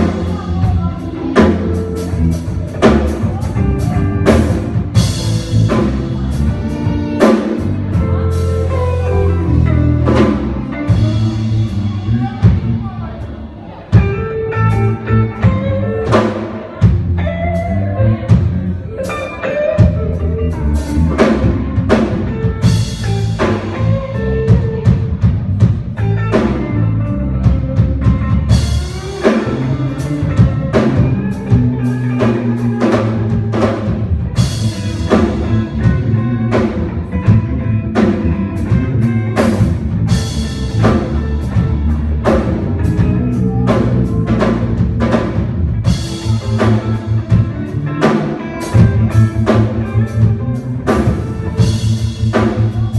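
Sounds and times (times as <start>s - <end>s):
bass line: 0.0s - 52.9s
church band music: 0.0s - 52.9s.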